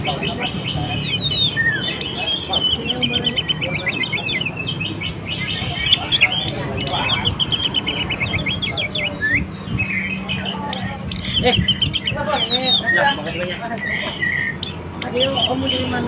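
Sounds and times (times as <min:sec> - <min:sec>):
magpie-robin singing: 0:00.0 - 0:16.0.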